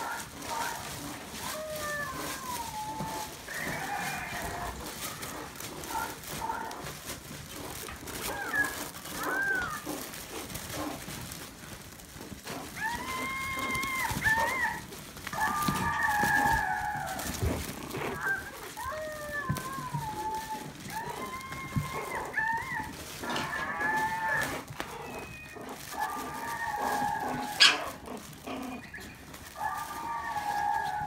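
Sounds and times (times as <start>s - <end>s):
puppies yipping and whining: 0.0s - 31.0s.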